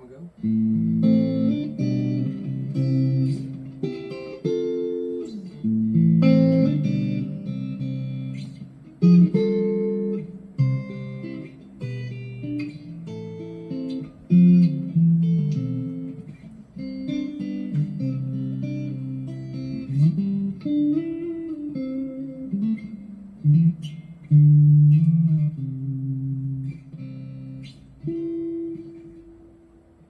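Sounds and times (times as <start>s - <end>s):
clean electric guitar playing: 0.0s - 30.0s.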